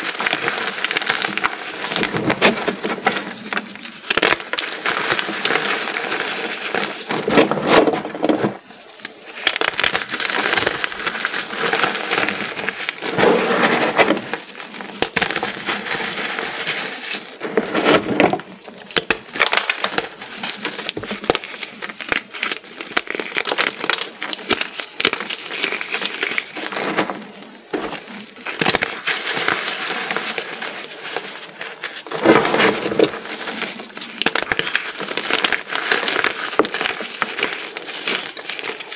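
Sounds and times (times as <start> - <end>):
chalk crunching and crackling: 0.0 - 38.9.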